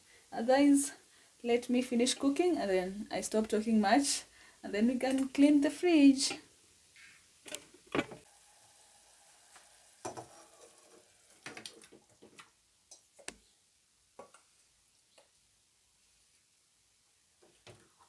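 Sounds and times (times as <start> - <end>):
faint sizzle: 0.0 - 18.0.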